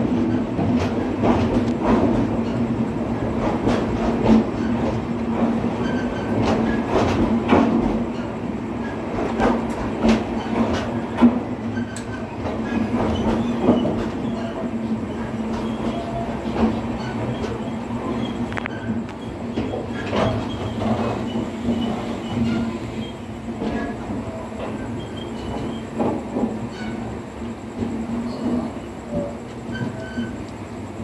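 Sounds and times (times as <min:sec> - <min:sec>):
train wheels knocking on rail joints: 0:00.0 - 0:31.0.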